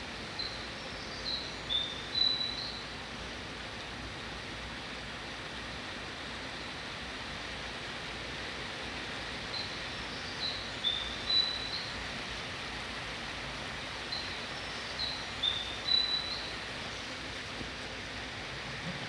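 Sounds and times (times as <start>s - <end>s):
platform noise hiss: 0.0s - 19.0s.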